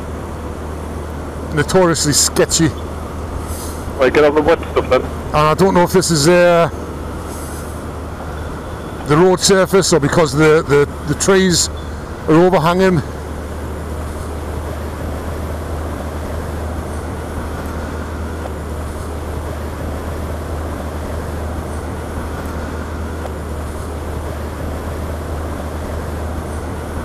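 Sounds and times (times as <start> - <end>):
motorcycle engine drone: 0.0 - 27.0
wind and road noise: 0.0 - 27.0.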